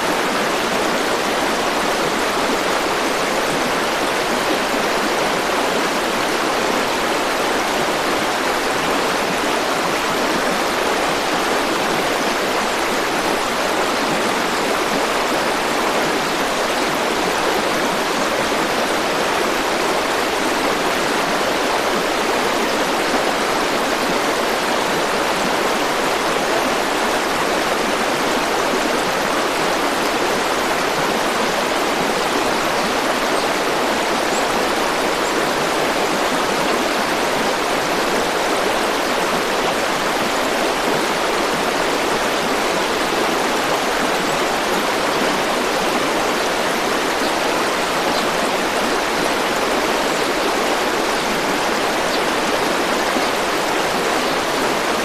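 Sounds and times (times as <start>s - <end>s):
water rushing over stones: 0.0s - 55.0s.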